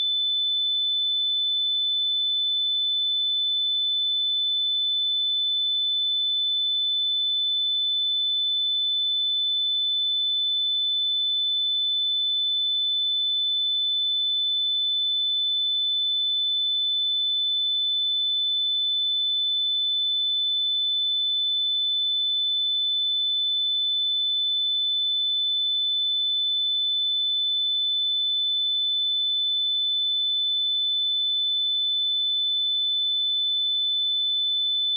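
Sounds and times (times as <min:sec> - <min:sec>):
high-pitched sine-wave test tone: 0:00.0 - 0:34.9.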